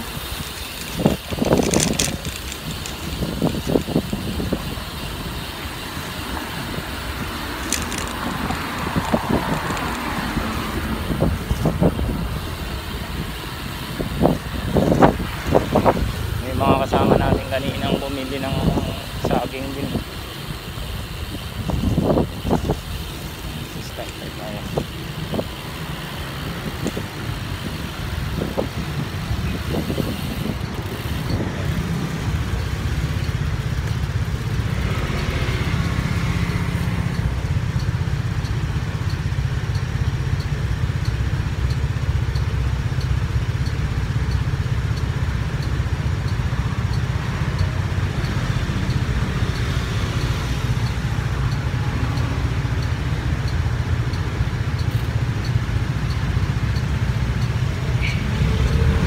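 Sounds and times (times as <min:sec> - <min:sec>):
faint ticking: 0:00.0 - 0:59.0
vehicle engine rumble: 0:00.0 - 0:59.0.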